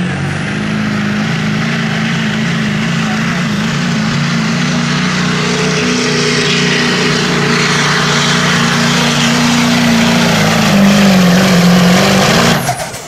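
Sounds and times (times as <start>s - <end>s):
diesel engine running flat out: 0.0s - 13.0s.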